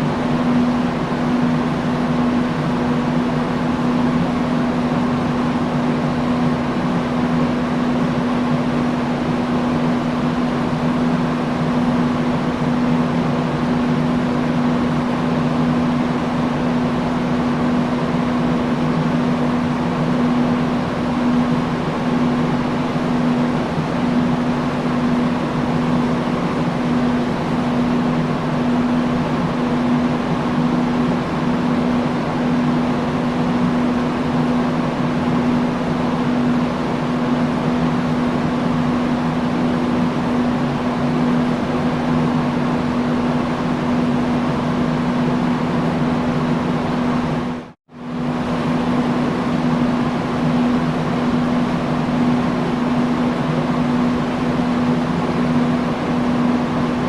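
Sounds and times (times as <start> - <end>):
industrial fan air rushing: 0.0 - 57.0
low motor hum: 0.0 - 57.0.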